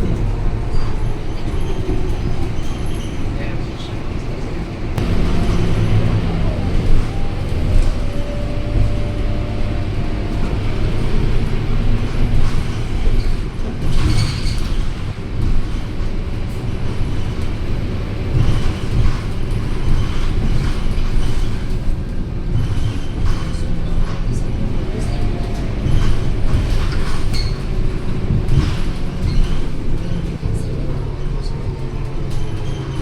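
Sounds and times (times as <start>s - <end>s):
bus engine and road rumble: 0.0s - 33.0s
interior rattles: 0.0s - 33.0s.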